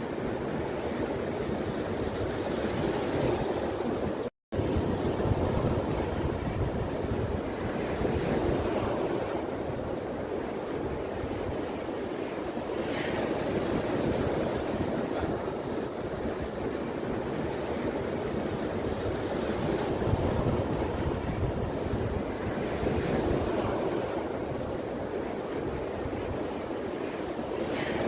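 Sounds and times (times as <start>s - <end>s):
sea waves washing on shore: 0.0s - 28.0s
wind buffeting microphone: 0.0s - 28.0s.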